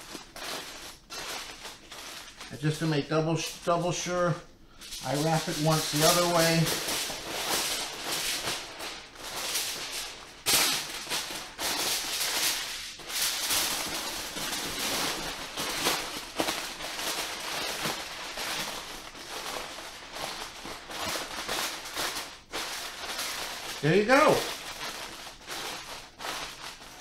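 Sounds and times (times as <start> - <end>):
aluminum foil crinkling: 0.0 - 27.0.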